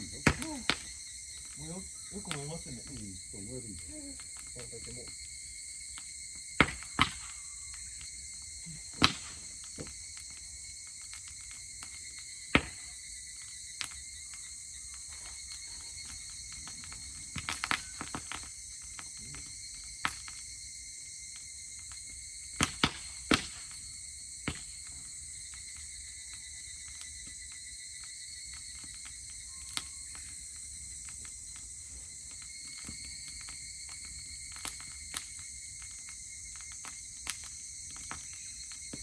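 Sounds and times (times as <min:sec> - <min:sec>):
campfire crackling and popping: 0:00.0 - 0:39.0
insects chirring: 0:00.0 - 0:39.0.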